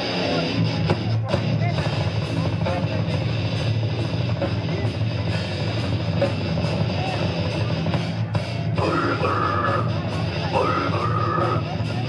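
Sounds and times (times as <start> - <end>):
distorted guitars and bass: 0.0 - 12.0
pounding drum kit: 0.0 - 12.0.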